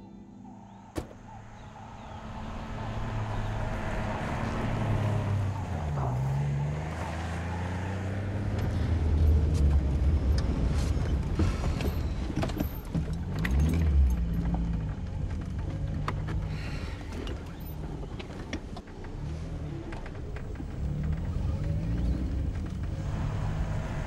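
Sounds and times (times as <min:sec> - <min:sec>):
road noise inside car: 0:00.6 - 0:24.0
car engine running: 0:00.8 - 0:24.0.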